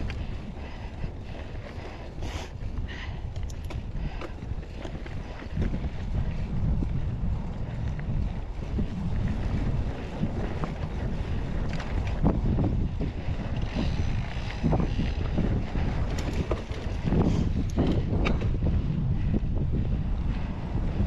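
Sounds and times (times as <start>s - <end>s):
wind buffeting microphone: 0.0s - 21.0s
bike rattling over rocks: 1.2s - 18.9s.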